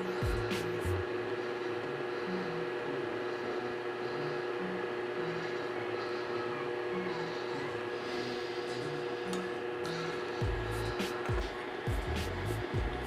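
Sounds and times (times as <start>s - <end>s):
appliance motor hum: 0.0s - 13.0s.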